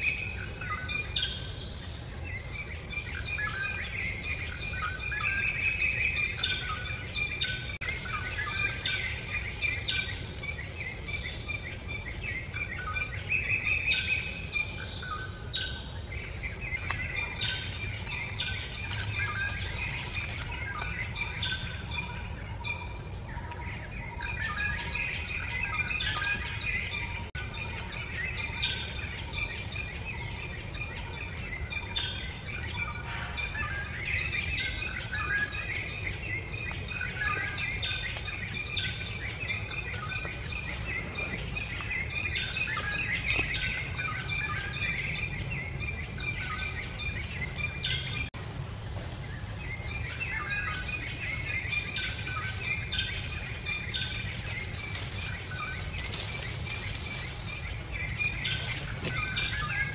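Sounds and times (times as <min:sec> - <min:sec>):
birds chirping: 0:00.0 - 0:59.9
low outdoor rumble: 0:00.0 - 0:59.9.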